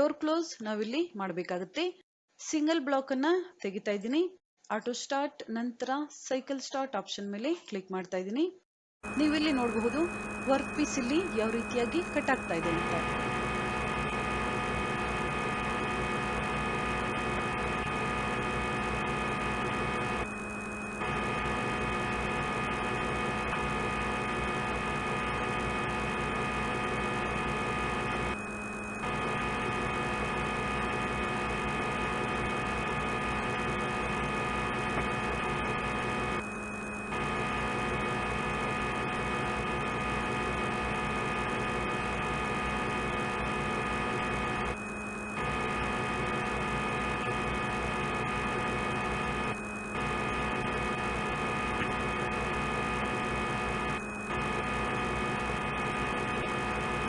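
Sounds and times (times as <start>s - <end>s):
steady electric machining hum: 9.1s - 57.0s.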